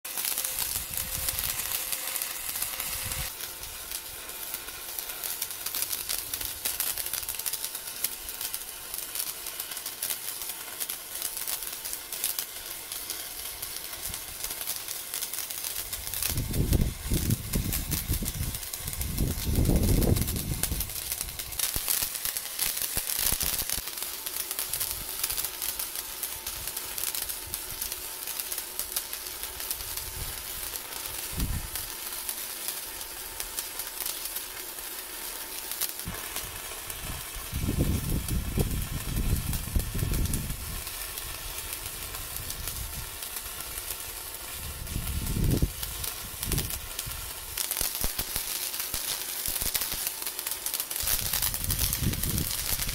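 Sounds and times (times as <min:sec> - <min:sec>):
welding arc crackling sizzle: 0:00.0 - 0:52.9.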